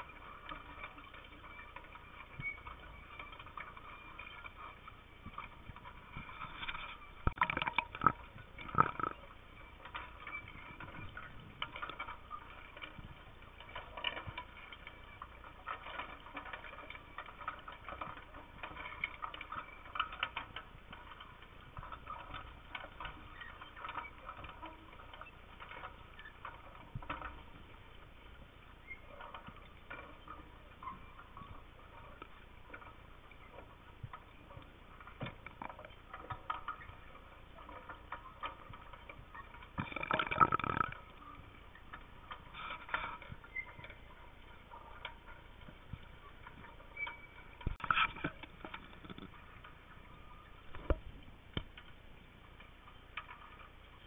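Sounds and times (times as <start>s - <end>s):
small clicks and crackles: 0.0s - 54.0s.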